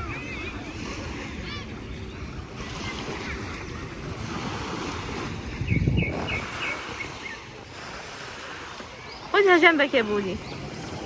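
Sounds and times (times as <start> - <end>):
surf on a beach: 0.0 - 11.0
wind buffeting microphone: 0.0 - 11.0.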